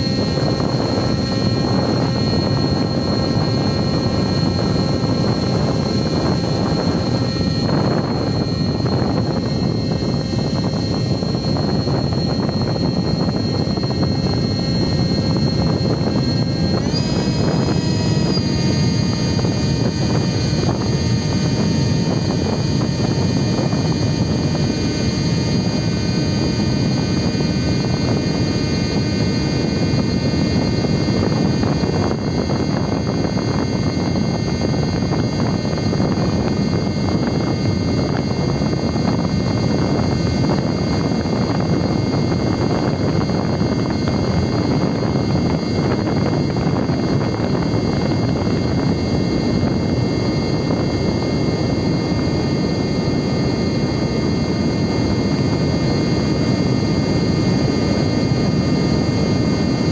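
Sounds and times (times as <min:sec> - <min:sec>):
electric motor propeller whining: 0:00.0 - 0:59.9
wind rush on microphone: 0:00.0 - 0:59.9.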